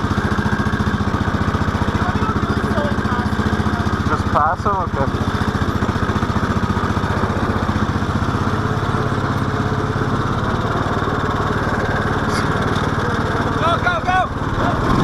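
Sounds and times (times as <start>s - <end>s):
small single-cylinder engine running: 0.0s - 15.0s.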